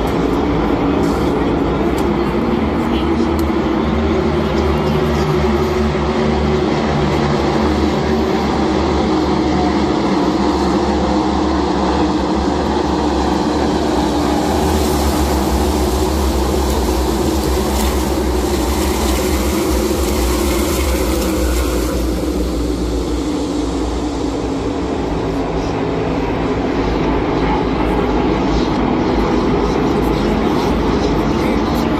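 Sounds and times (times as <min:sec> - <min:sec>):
race cars roaring past: 0:00.0 - 0:31.9.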